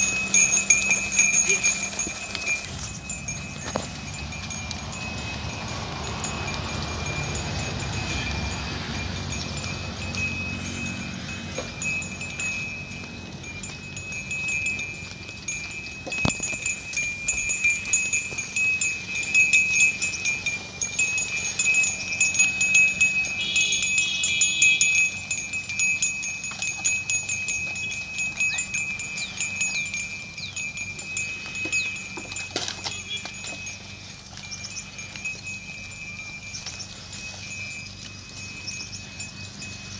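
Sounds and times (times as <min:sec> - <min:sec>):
cattle bells jingling: 0:00.0 - 0:39.9.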